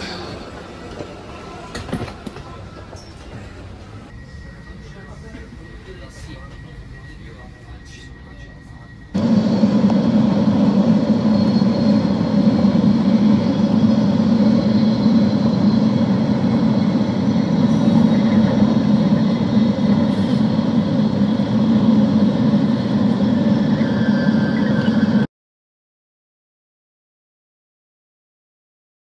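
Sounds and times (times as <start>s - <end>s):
train running rumble: 0.0s - 25.3s.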